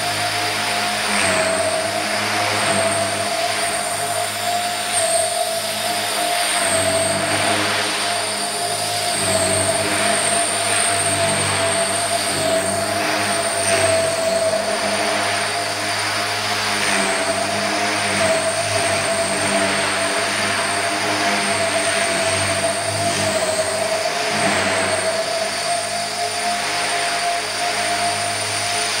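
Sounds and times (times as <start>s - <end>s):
model helicopter motor whine: 0.0s - 29.0s
rotor blades droning: 0.0s - 29.0s.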